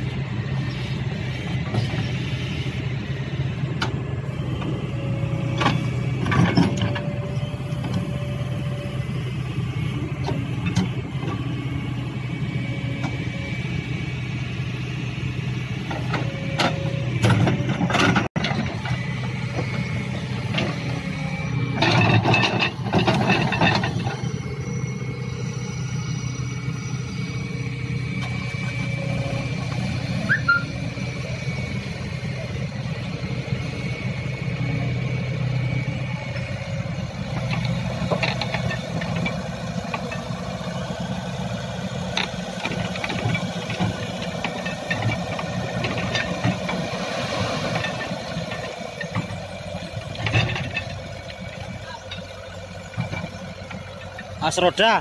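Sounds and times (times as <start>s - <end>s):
excavator diesel engine running: 0.0s - 55.0s
faint hydraulic whine: 0.0s - 55.0s.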